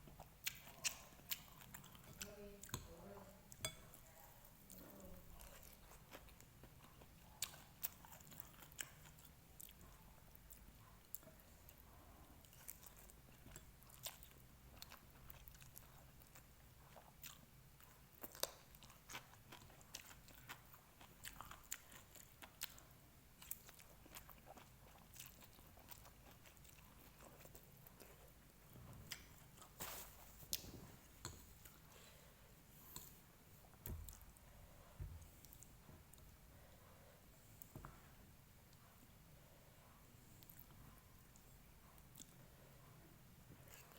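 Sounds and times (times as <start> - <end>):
person chewing noodles: 0.0 - 2.7, 3.5 - 37.7, 39.8 - 43.9.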